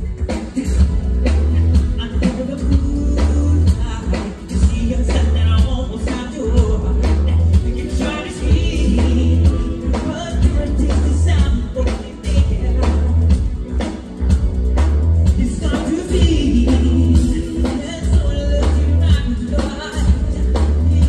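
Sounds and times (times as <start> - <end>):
man singing: 0.0 - 13.8, 15.2 - 21.0
live pop band playing: 0.0 - 21.0.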